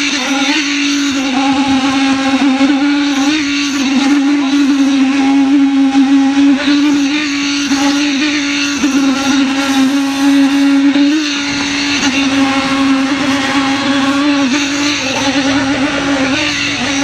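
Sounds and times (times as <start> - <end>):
concrete vibrator humming: 0.0 - 17.0.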